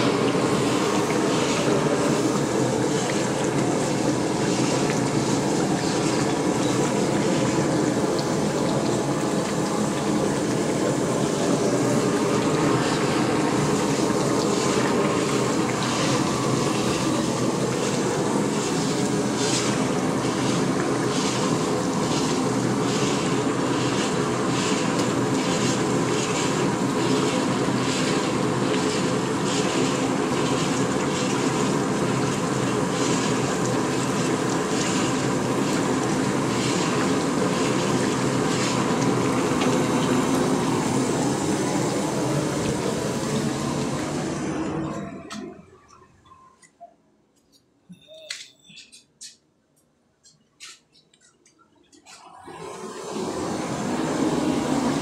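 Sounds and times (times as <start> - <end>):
gas burner roaring: 0.0 - 45.9, 52.0 - 55.0
mixture sizzling and bubbling: 0.0 - 46.7, 50.3 - 55.0.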